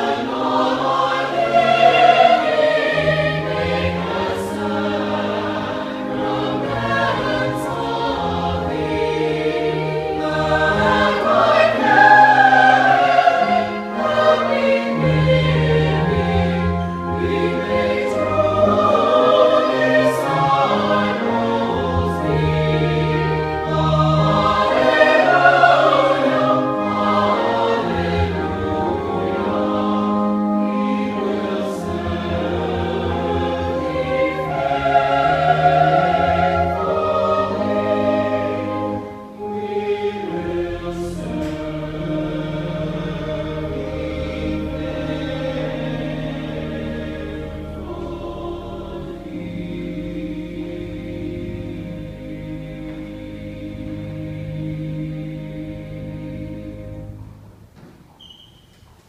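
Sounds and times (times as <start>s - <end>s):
choir singing: 0.0s - 57.6s
pipe organ low notes: 0.0s - 58.2s.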